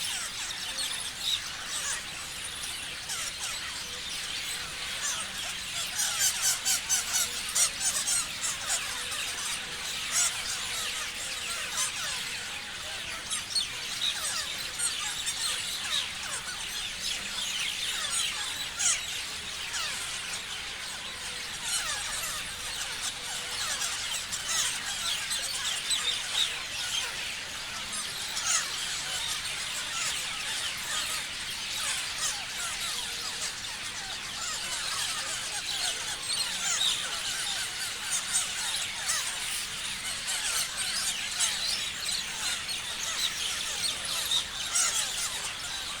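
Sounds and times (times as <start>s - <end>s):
parrots chirping: 3.0s - 46.0s.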